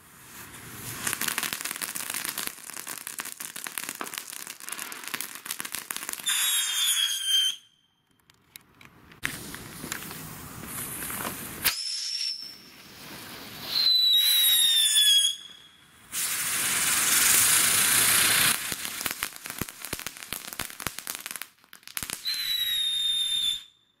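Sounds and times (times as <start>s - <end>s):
firework hissing spray of sparks: 0.0s - 7.6s, 9.2s - 23.4s
firework whistles: 0.0s - 7.9s, 10.7s - 24.0s.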